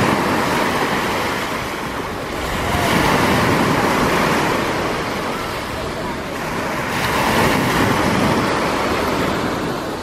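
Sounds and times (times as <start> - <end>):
small sea waves breaking: 0.0 - 10.0.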